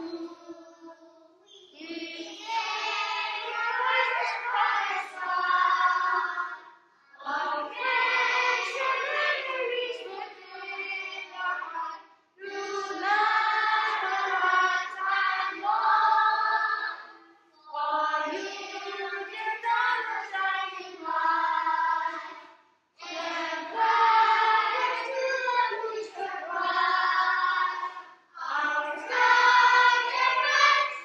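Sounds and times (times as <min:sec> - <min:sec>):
children singing in unison: 0:00.0 - 0:31.0.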